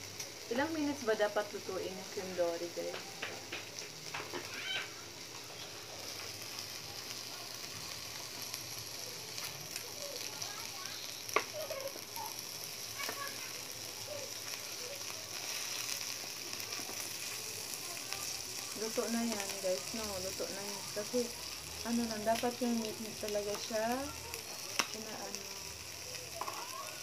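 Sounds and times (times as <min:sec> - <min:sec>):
meat sizzling on a grill plate: 0:00.0 - 0:27.0.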